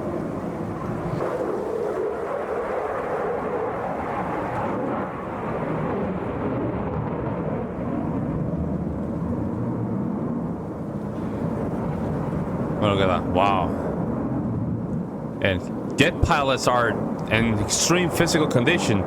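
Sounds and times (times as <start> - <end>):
jet fighter rumble: 0.0 - 19.0.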